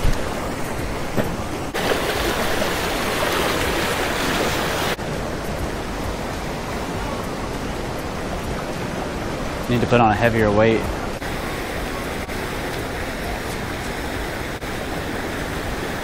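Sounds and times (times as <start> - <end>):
creek water rushing over rapids: 0.0 - 16.0.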